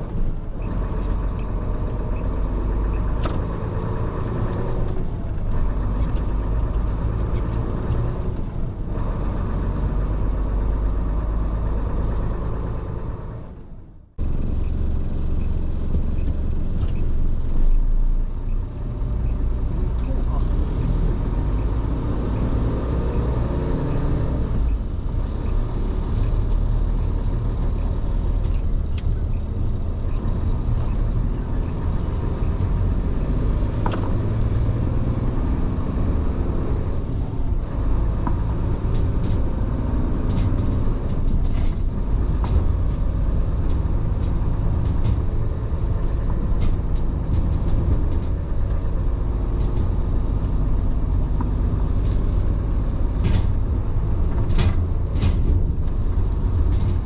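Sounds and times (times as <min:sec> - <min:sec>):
truck engine and road noise: 0:00.0 - 0:57.0.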